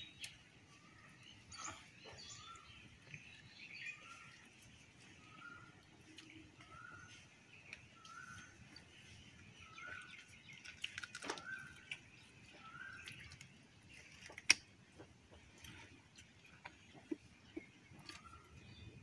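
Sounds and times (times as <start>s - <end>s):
faint bird chirps: 0.0s - 14.2s, 16.5s - 19.0s.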